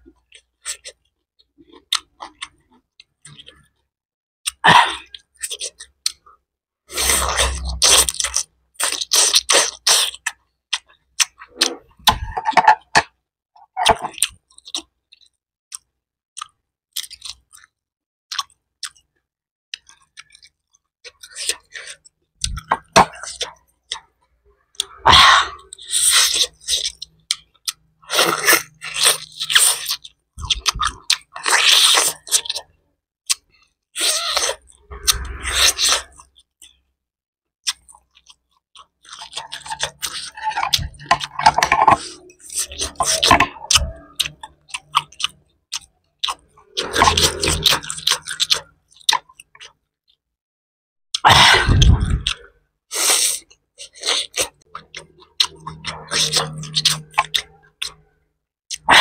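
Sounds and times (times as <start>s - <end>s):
person chewing food: 0.0s - 37.0s, 37.6s - 50.2s, 51.1s - 59.0s.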